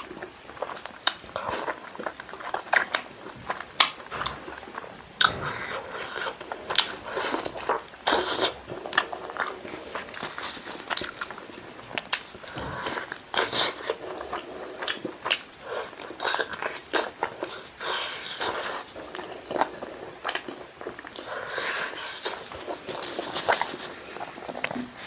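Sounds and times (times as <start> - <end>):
man chewing meat: 0.0 - 25.0.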